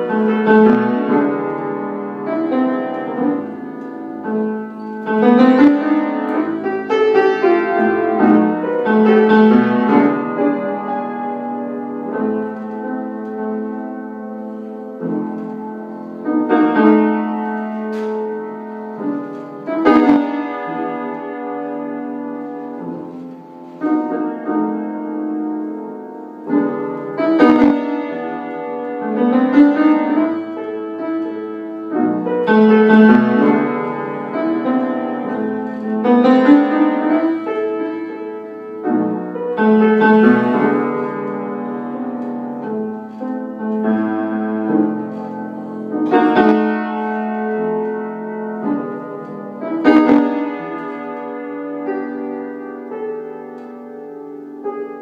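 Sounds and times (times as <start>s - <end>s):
slow blues piano chords: 0.0s - 55.0s.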